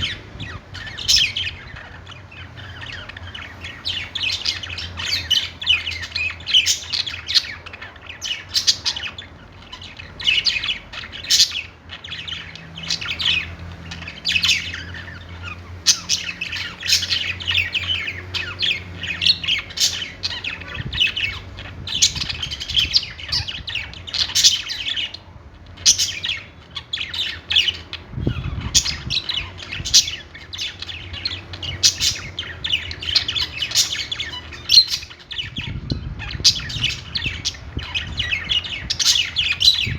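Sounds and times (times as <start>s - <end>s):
budgies chattering and squawking: 0.0s - 39.9s.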